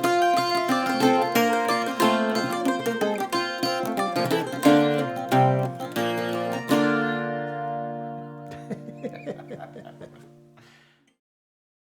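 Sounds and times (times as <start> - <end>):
bouzouki and mandolin playing: 0.0 - 10.6.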